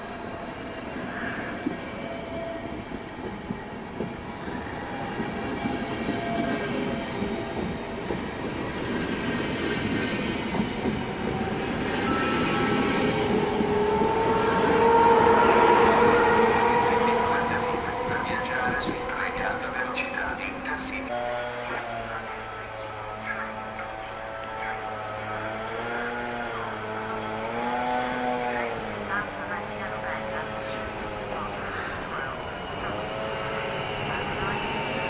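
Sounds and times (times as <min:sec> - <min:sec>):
electric locomotive whine: 0:00.0 - 0:35.0
train coaches rolling on rails: 0:00.0 - 0:35.0.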